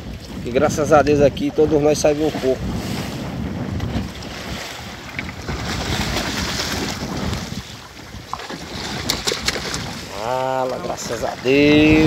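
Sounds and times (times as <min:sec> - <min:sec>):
water splashing against boat hull: 0:00.0 - 0:12.0
wind buffeting microphone: 0:00.0 - 0:12.0.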